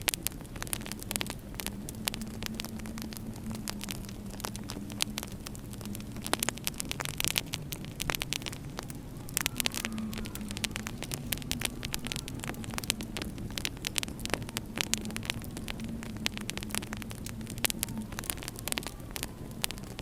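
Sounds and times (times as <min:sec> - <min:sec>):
low steady hum: 0:00.0 - 0:20.0
wood fire crackling: 0:00.0 - 0:20.0.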